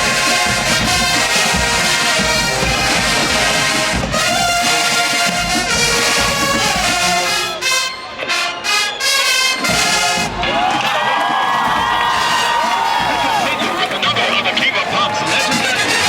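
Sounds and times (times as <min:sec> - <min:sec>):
marching band brass playing: 0:00.0 - 0:16.0.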